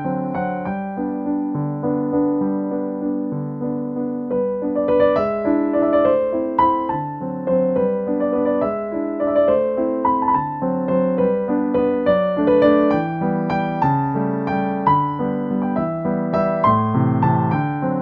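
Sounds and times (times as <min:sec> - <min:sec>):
electric piano melody: 0:00.0 - 0:18.0.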